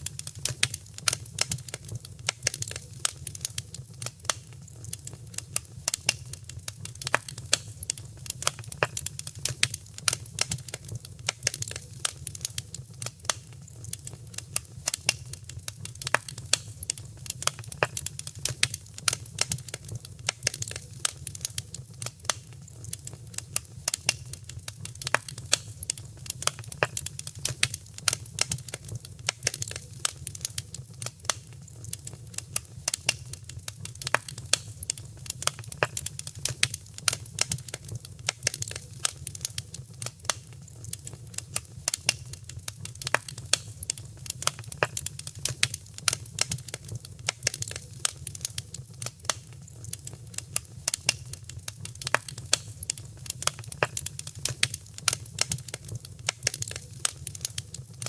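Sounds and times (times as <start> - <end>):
low rumble of burning fire: 0.0 - 58.0
wood fire pops and snaps: 0.0 - 58.0.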